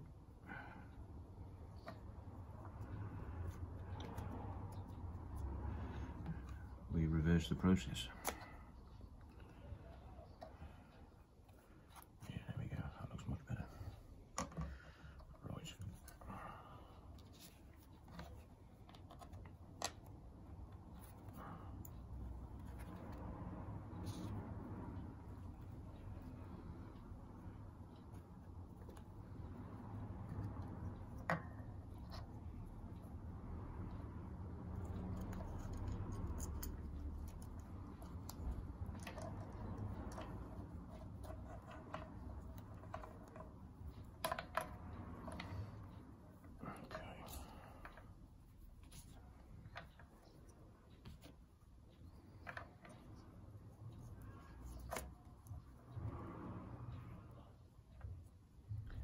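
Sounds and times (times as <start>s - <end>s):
low steady hum: 0.0s - 59.0s
low steady rumble: 0.0s - 59.0s
light clicks and taps: 1.0s - 59.0s.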